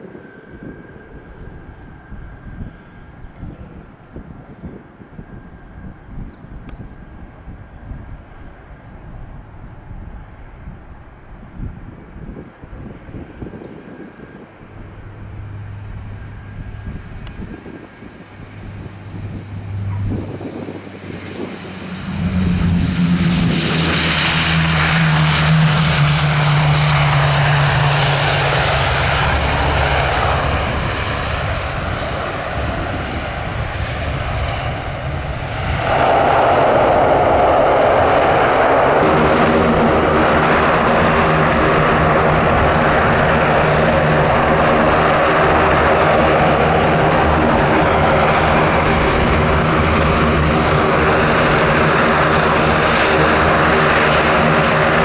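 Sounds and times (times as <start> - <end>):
airplane engines rumbling: 0.0 - 55.0
high turbine whine: 0.0 - 55.0.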